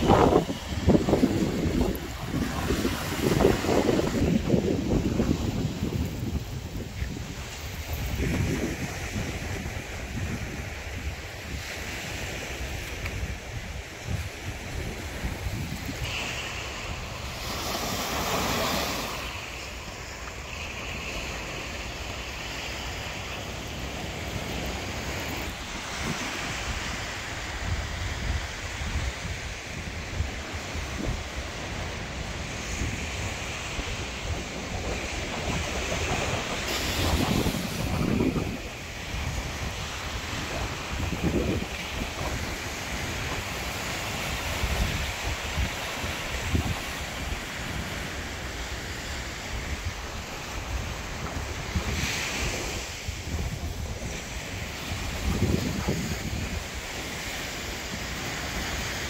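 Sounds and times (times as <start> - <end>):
surf washing onto pebble beach: 0.0 - 59.0
wind buffeting microphone: 0.0 - 59.0.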